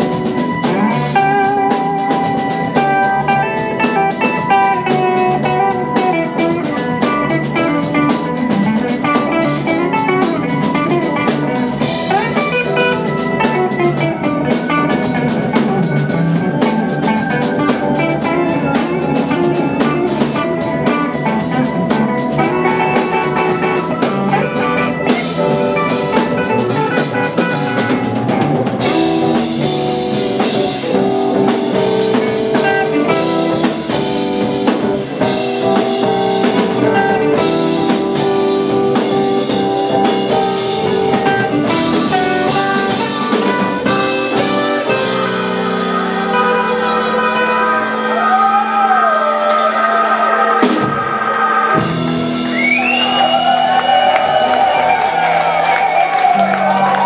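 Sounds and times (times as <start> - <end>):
drum kit with cymbals: 0.0 - 57.0
electric bass: 0.0 - 57.0
electric guitar: 0.0 - 57.0.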